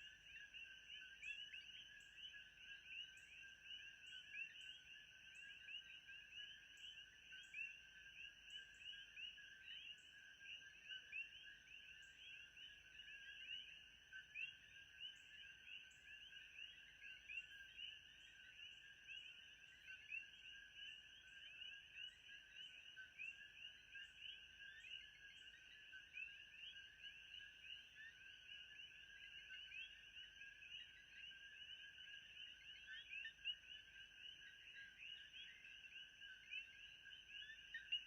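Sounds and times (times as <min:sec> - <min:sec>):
chorus of chirps: 0:00.0 - 0:38.0.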